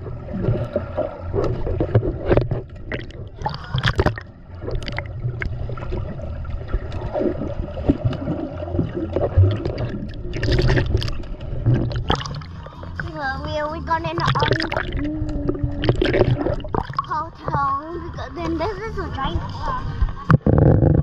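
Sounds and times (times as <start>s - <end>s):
muffled underwater water sloshing: 0.0s - 21.0s.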